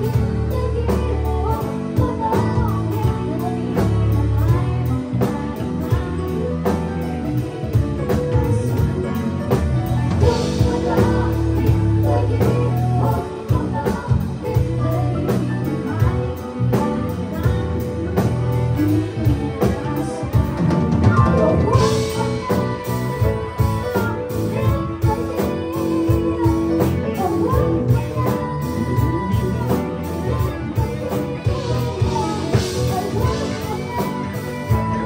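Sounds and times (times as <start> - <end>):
drum kit beat: 0.0 - 35.0
electric bass: 0.0 - 35.0
electric guitar: 0.0 - 35.0
woman singing into a microphone: 0.0 - 35.0.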